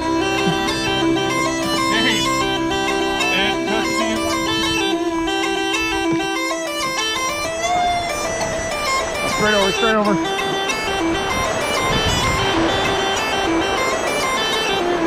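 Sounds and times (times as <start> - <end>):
bagpipe tune over drone: 0.0 - 15.0.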